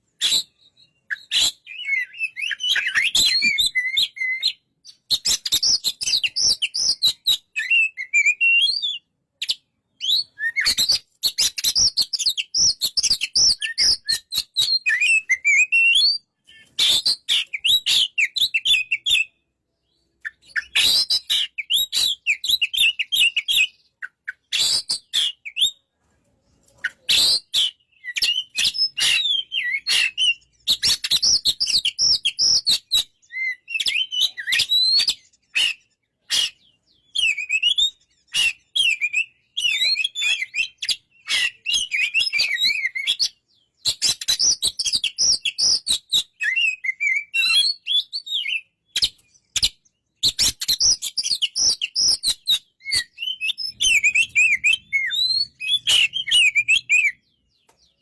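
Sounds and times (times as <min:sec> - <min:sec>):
bird singing whistled notes: 0:00.0 - 0:25.9, 0:26.8 - 0:58.0.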